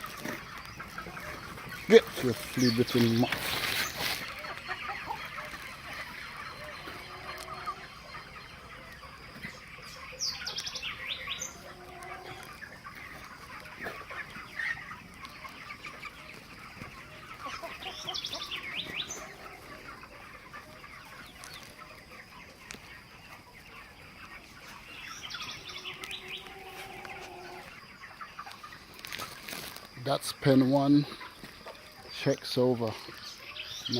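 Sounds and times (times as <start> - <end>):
high-pitched chicken calls: 0.0 - 29.9
chickens clucking and calling: 0.0 - 33.9.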